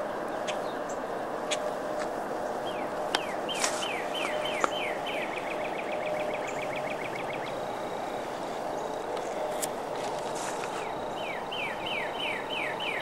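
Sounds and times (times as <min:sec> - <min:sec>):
outdoor hiss: 0:00.0 - 0:13.0
songbird singing: 0:00.0 - 0:13.0.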